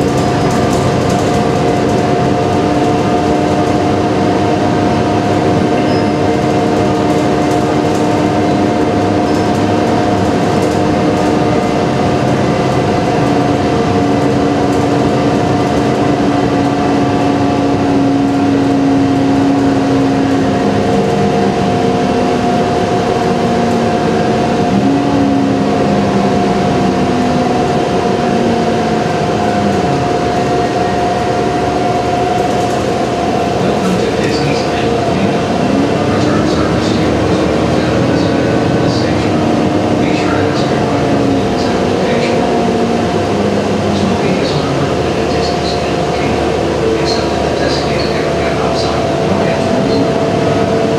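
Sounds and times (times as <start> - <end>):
bus engine and road noise: 0.0 - 50.9
droning whine: 0.0 - 50.9.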